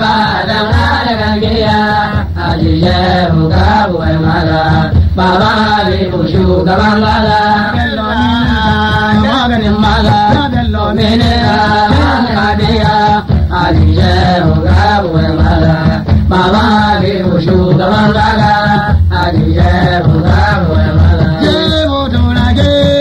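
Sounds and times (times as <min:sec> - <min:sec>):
drum accompaniment: 0:00.0 - 0:23.0.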